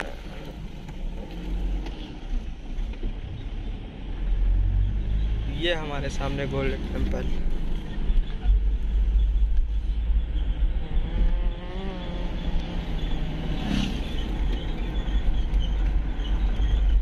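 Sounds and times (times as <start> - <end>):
car road noise rumble: 0.0 - 17.0.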